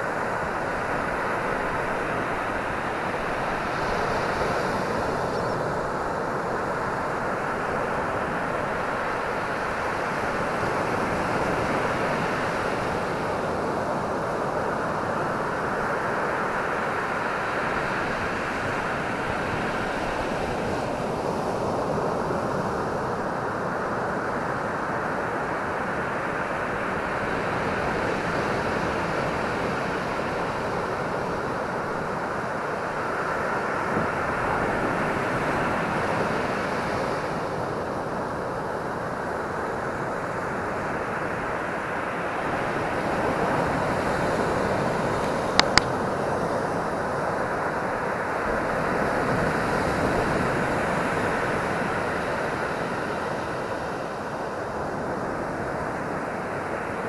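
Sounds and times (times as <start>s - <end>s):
surf breaking on a sandy beach: 0.0s - 57.0s.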